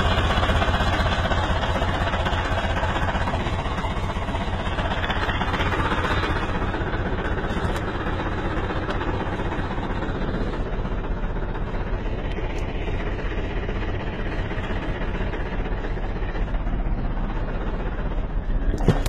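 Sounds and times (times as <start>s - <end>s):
heavy machine engine droning: 0.0s - 19.0s.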